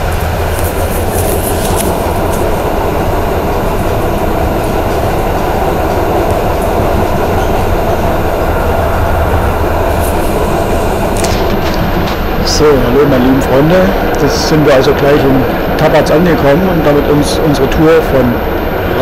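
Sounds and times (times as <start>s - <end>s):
tram wheels rumbling on rails: 0.0s - 19.0s.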